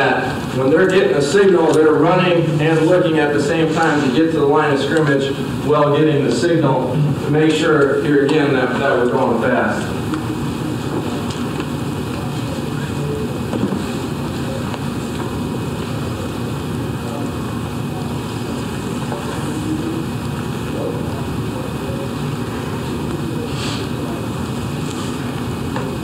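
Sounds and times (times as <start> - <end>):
low room rumble with hiss: 0.0 - 26.0.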